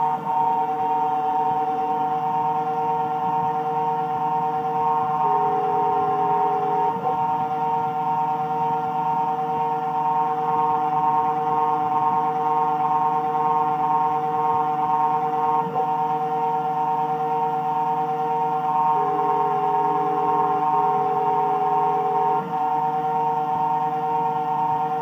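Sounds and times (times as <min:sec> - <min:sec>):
milling machine whine: 0:00.0 - 0:25.0.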